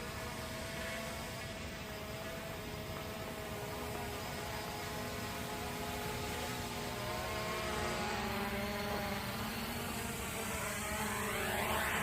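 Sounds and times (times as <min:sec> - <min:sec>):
quadcopter motors whirring: 0:00.0 - 0:12.0.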